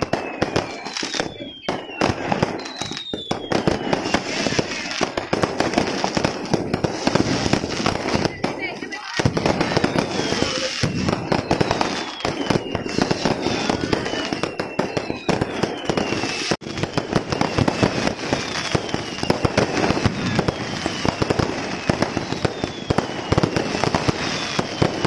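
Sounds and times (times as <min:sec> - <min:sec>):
falling firework whistle: 0:00.0 - 0:25.0
fireworks bangs and crackling: 0:00.0 - 0:25.0.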